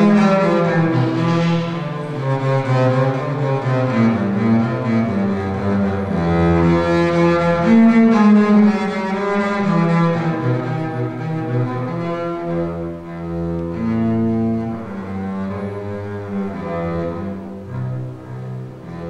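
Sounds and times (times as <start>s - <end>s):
bowed double bass: 0.0s - 19.0s.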